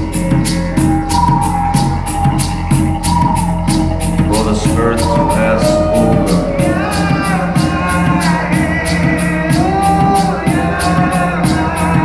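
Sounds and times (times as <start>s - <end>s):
music with beat and singing voice: 0.0s - 12.0s.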